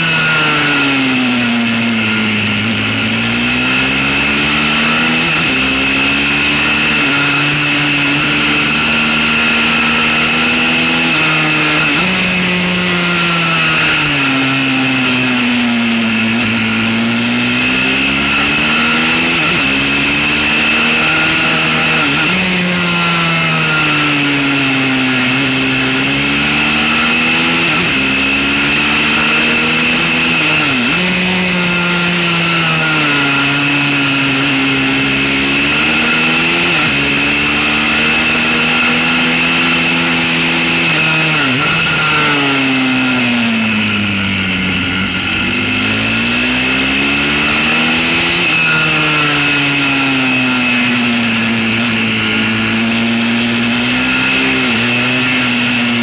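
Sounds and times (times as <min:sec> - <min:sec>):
constant high whine: 0:00.0 - 0:56.0
motorbike engine revving: 0:00.0 - 0:56.0.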